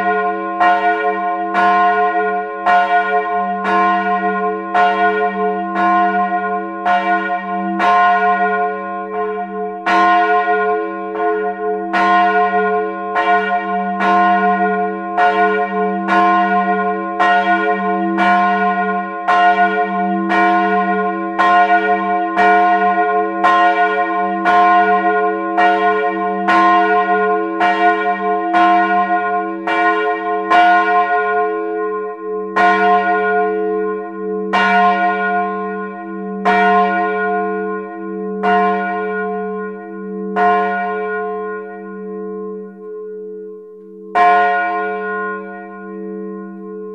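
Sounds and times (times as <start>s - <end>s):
large bell ringing: 0.0s - 46.9s.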